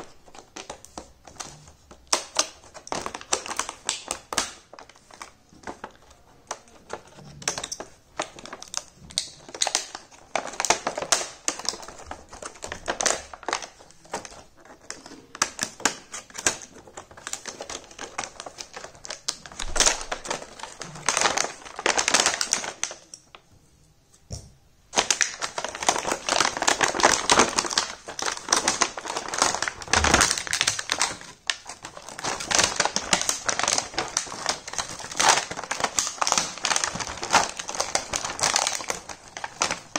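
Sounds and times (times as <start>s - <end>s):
plastic packaging crinkling: 0.0s - 23.4s, 24.9s - 39.9s.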